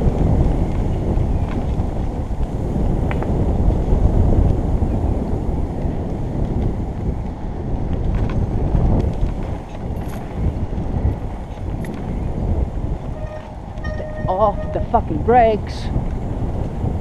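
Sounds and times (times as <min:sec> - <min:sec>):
bike knocking and rattling: 0:00.0 - 0:13.8
bike tyres rumbling on dirt trail: 0:00.0 - 0:13.9, 0:15.9 - 0:17.0
wind buffeting microphone: 0:00.0 - 0:17.0.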